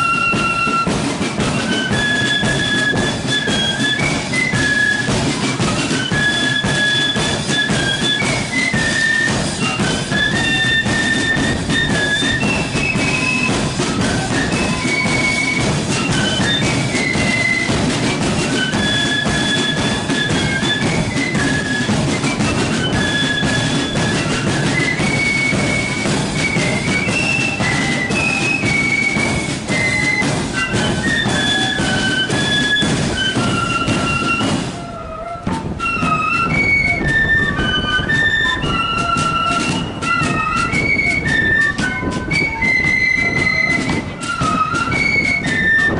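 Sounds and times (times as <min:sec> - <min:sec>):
flute band playing: 0:00.0 - 0:45.9
marching drums: 0:00.0 - 0:45.9.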